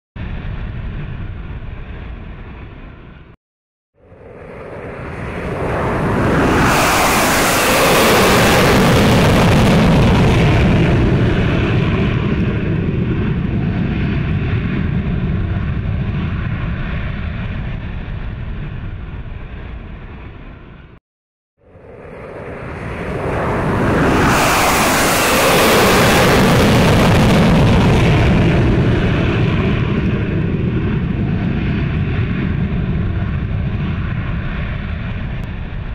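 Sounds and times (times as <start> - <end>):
fighter jets flying past: 4.0 - 21.0, 21.6 - 35.9.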